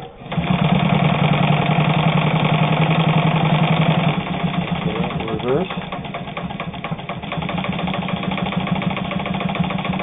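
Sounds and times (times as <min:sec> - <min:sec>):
sewing machine running: 0:00.0 - 0:10.0.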